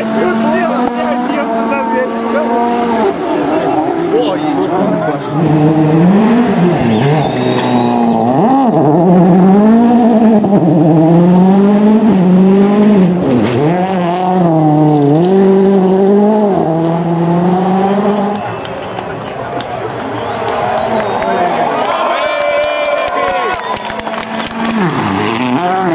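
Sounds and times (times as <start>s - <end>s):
rally car engine at high revs: 0.0s - 18.7s, 23.8s - 25.9s.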